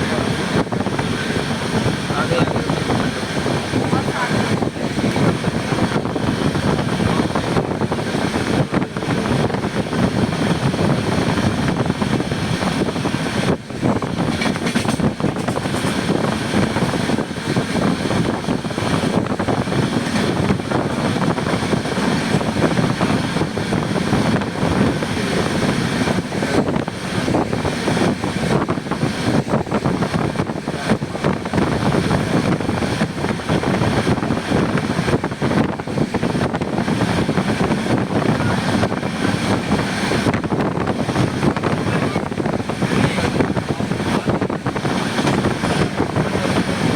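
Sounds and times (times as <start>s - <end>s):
train wheels rumbling on track: 0.0s - 46.9s.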